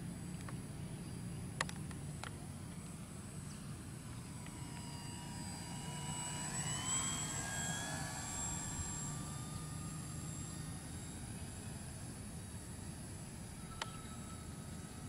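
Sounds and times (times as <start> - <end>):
model plane motor whining: 0.2 - 15.0.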